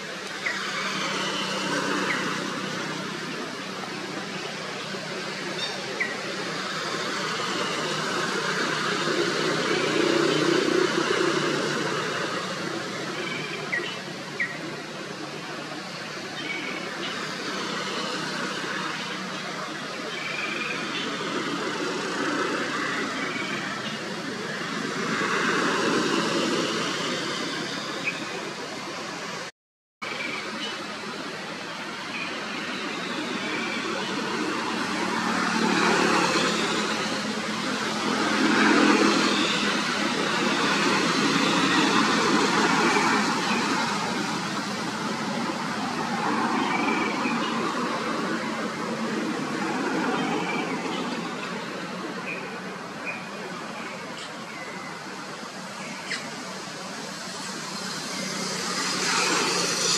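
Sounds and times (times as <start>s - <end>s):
steady outdoor rush: 0.0s - 59.9s.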